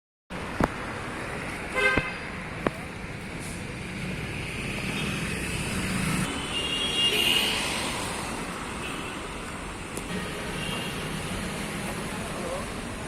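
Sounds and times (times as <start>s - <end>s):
passing road traffic rumble: 0.3s - 6.5s, 7.4s - 13.0s.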